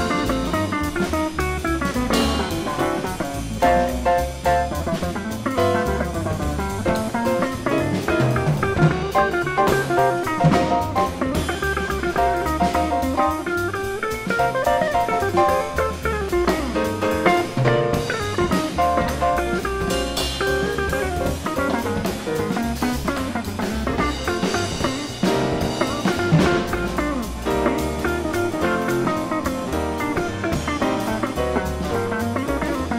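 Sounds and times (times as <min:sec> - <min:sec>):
bass: 0:00.0 - 0:32.9
drum kit with cymbals: 0:00.0 - 0:32.9
jazz guitar melody: 0:00.0 - 0:32.9.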